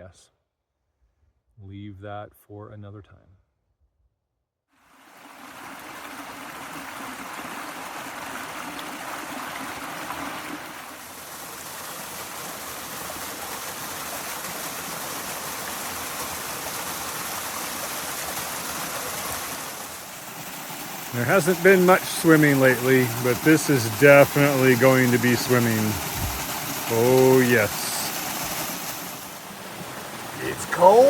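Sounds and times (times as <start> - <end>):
waterfall pouring into pool: 4.8 - 31.0.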